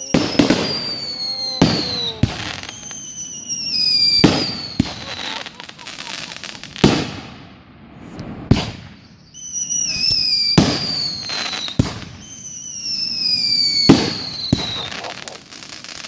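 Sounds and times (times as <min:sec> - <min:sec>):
firework whistles falling in pitch: 0:00.0 - 0:06.8, 0:08.6 - 0:16.0
fireworks bangs: 0:00.0 - 0:16.0.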